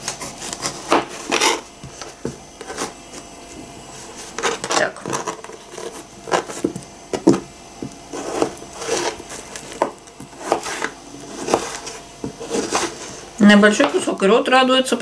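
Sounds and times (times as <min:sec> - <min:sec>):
knife cutting fruit on cutting board: 0:00.0 - 0:14.1.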